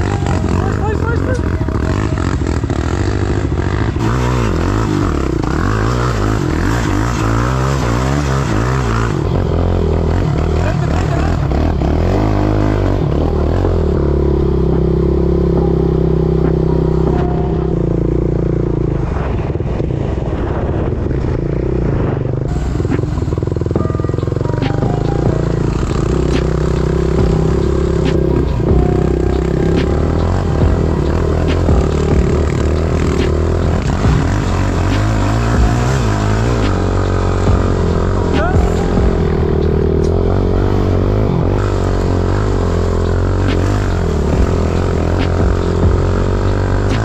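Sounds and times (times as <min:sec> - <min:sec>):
quad bike engine running: 0:00.0 - 0:47.0.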